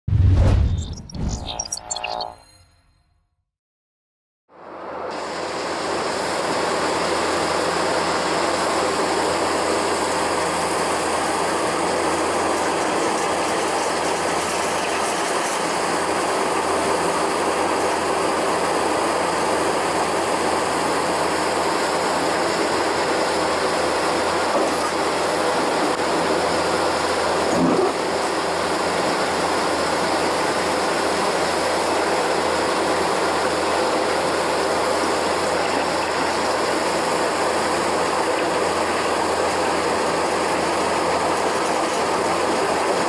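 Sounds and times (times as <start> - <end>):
excavator diesel engine: 5.5 - 43.0.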